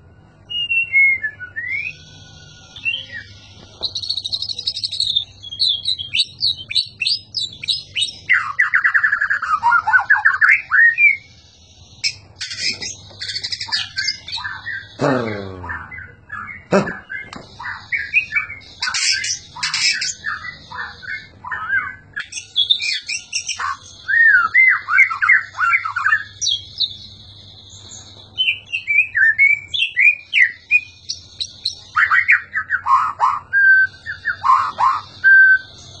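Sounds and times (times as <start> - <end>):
songbird whistling and chirping: 0.3 - 15.0, 15.7 - 36.0.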